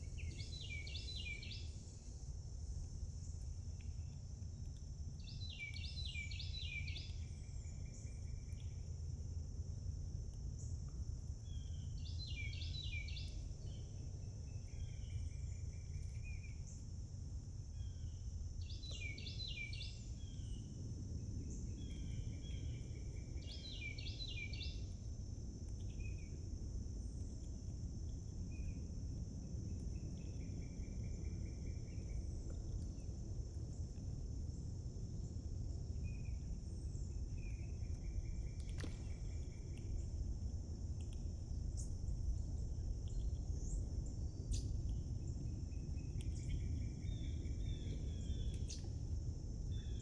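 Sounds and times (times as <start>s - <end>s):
songbird singing: 0.0s - 9.0s, 10.6s - 34.6s, 35.9s - 50.0s
insects droning: 0.0s - 50.0s
low background rumble: 0.0s - 50.0s.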